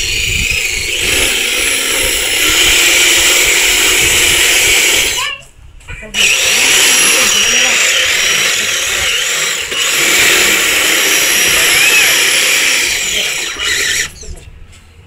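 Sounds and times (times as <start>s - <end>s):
rc car motor whining: 0.0s - 5.3s, 6.2s - 14.3s.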